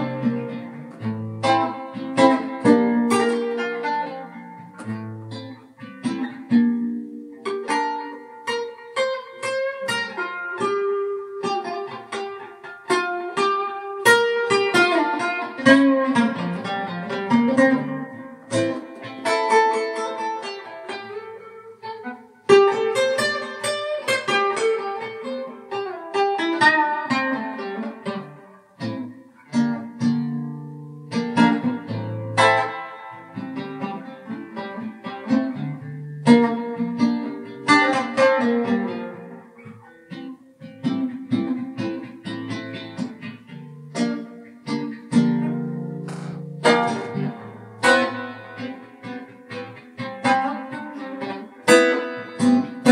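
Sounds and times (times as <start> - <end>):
guitar music: 0.0 - 52.9.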